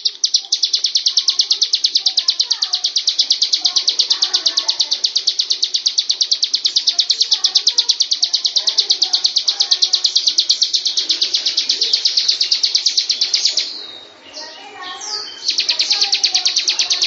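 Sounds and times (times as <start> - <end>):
bird singing rapid high notes: 0.0 - 17.0.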